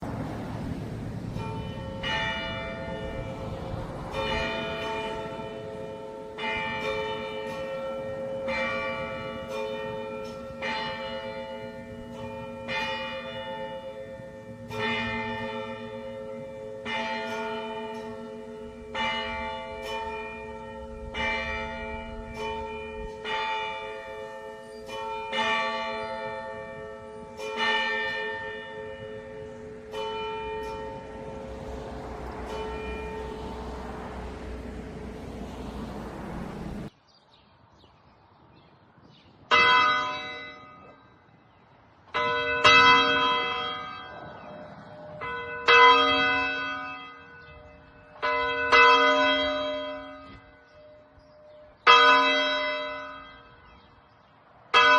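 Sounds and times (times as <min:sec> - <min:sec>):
church bell ringing: 0:01.2 - 0:36.9, 0:39.5 - 0:41.4, 0:42.1 - 0:54.9.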